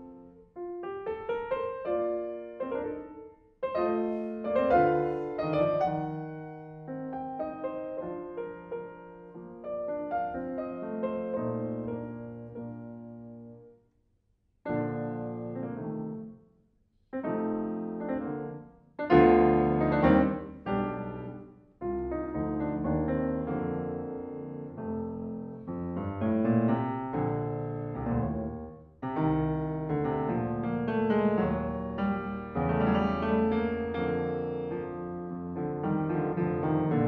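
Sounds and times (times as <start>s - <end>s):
grand piano playing: 0.0s - 13.8s, 14.7s - 16.4s, 17.1s - 37.0s.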